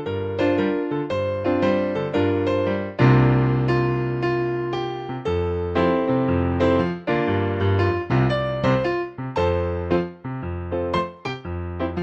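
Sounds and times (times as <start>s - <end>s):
slow piano-like chords: 0.0s - 12.0s.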